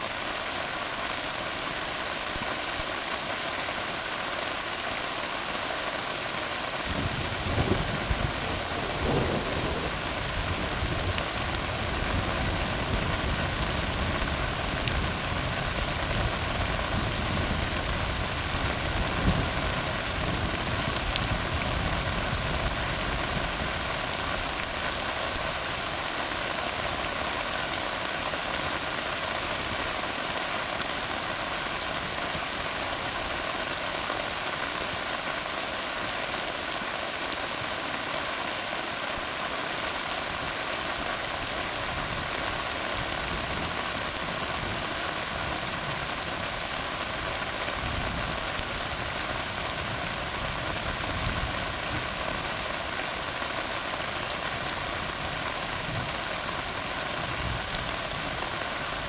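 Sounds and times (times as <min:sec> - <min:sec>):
rain on a road: 0:00.0 - 0:59.0.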